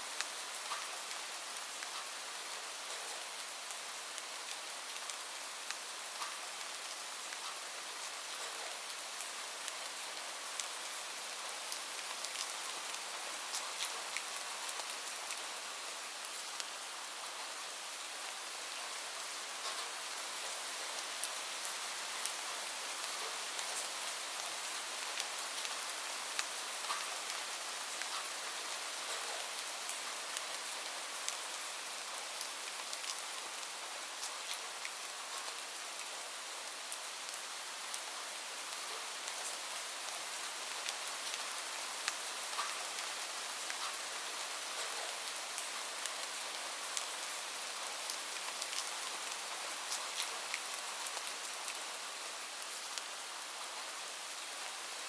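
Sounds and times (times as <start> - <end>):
steady rain hiss: 0.0 - 55.0
raindrops ticking on a surface: 0.1 - 54.8.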